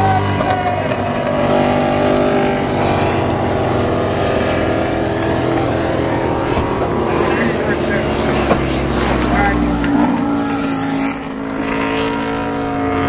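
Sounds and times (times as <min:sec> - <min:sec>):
racing motorcycle engine passing: 0:00.0 - 0:13.0.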